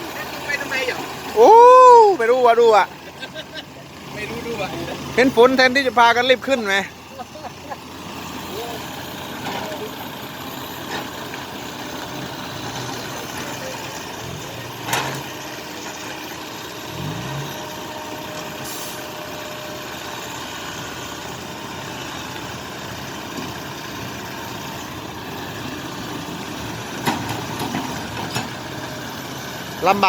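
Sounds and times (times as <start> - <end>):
vehicle engines running: 0.0 - 30.0.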